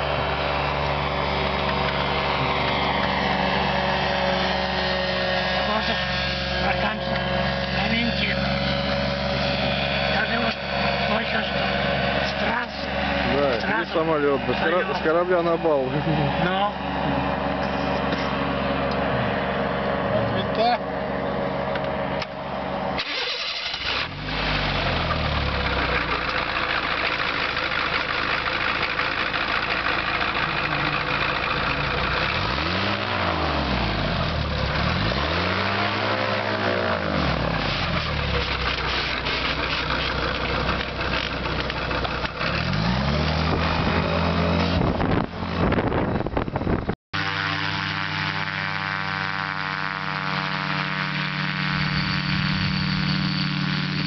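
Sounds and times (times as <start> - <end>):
propeller engine revving: 0.0 - 54.0.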